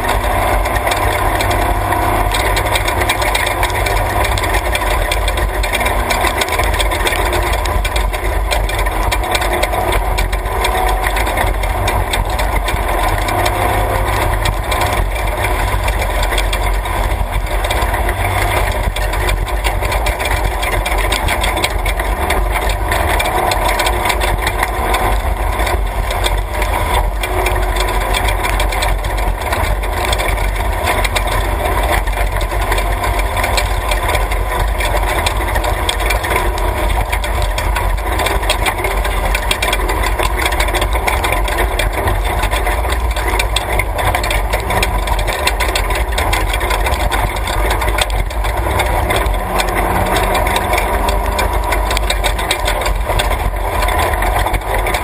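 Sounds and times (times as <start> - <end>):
chassis rattling and knocking: 0.0 - 55.0
truck engine running: 0.0 - 55.0
tyre and road rumble: 0.0 - 55.0.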